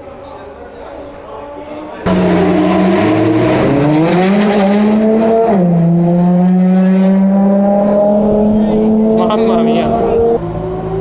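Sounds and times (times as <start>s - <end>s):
racing car engine: 2.0s - 11.0s.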